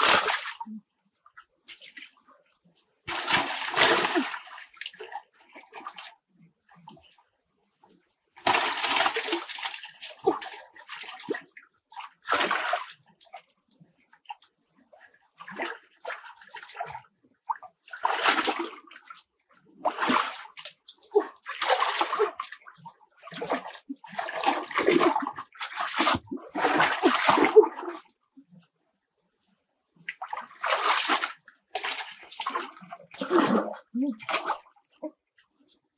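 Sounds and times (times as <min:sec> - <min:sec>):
water splashing and sloshing: 0:00.0 - 0:28.8, 0:29.4 - 0:35.8.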